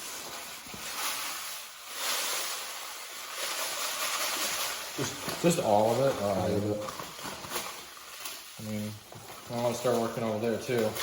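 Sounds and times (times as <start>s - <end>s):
granular absorbent pouring: 0.0s - 11.0s.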